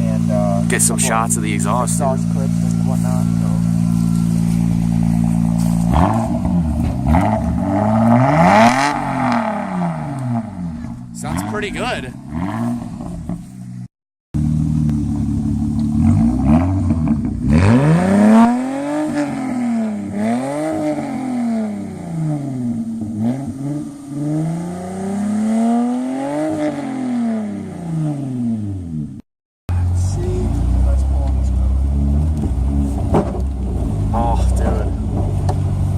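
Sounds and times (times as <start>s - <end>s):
car exhaust revving: 0.0s - 35.9s.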